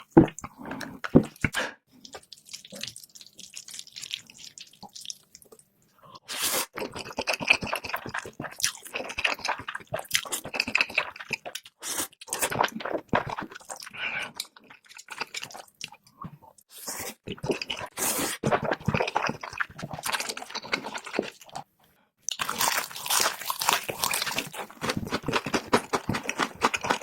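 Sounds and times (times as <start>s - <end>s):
smacking chewing and slurping: 0.0s - 5.7s, 6.6s - 21.7s, 22.3s - 27.0s
wet eating sounds: 0.0s - 27.0s.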